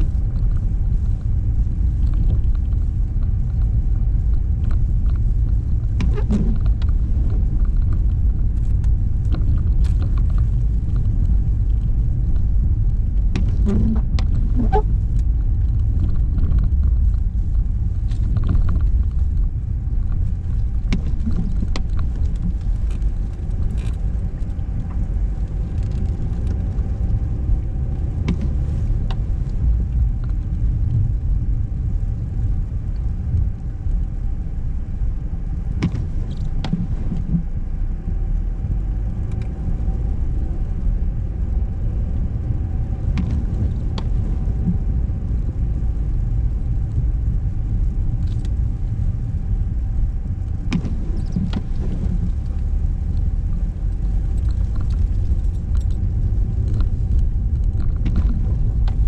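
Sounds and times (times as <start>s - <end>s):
small clicks and rattles: 0.0s - 34.9s, 35.5s - 37.6s, 42.0s - 59.0s
car engine and road noise: 0.0s - 59.0s.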